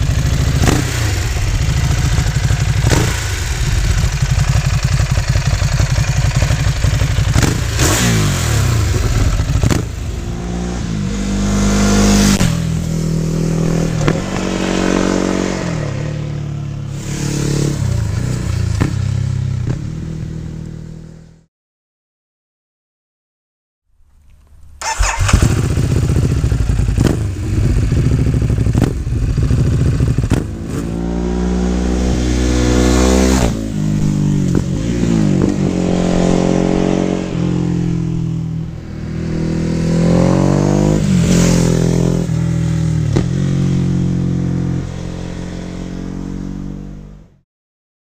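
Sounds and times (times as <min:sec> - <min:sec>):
motorcycle engine revving: 0:00.0 - 0:21.4, 0:24.8 - 0:47.4.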